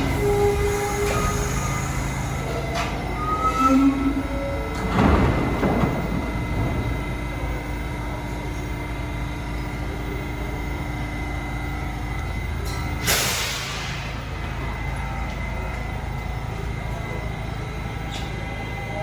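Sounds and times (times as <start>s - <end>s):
subway train rush and hum: 0.0s - 19.0s.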